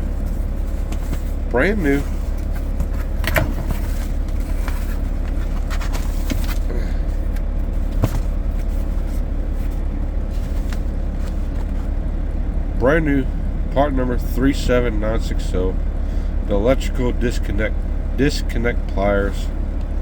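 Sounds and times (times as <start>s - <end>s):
low rumble: 0.0s - 16.6s.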